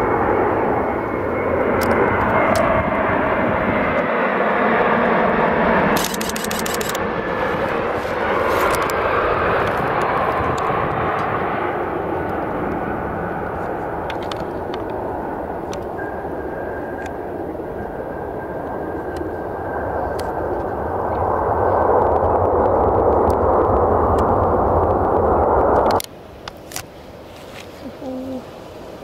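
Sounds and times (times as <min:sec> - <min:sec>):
jet engine rushing noise: 0:00.0 - 0:29.0.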